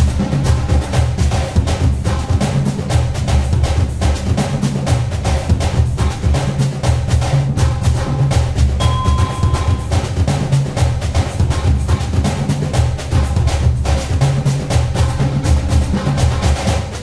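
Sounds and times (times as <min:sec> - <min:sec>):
percussive drum track with bass beat: 0:00.0 - 0:17.0.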